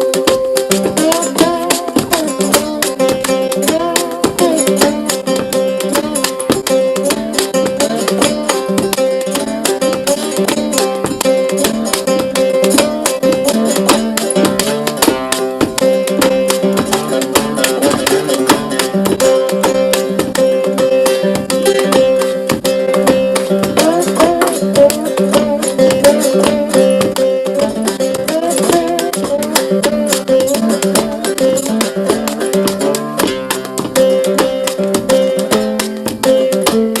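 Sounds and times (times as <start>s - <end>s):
acoustic guitar plucked: 0.0s - 37.0s.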